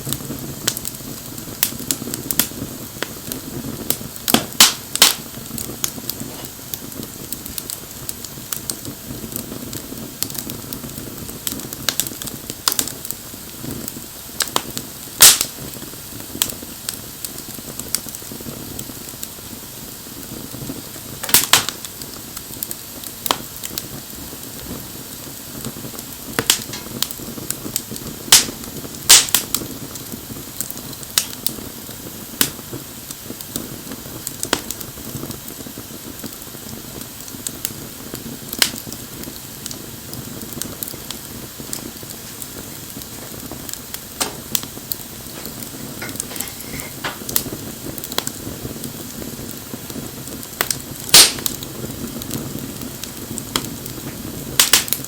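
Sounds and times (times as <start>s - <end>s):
low rush of flame: 0.0s - 55.0s
wood fire crackling and popping: 0.0s - 55.0s.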